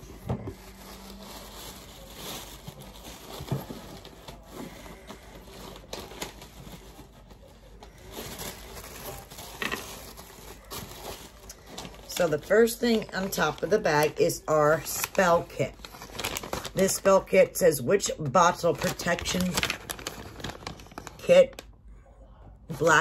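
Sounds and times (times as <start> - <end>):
tissue paper rustling: 0.0 - 17.4, 18.6 - 21.6.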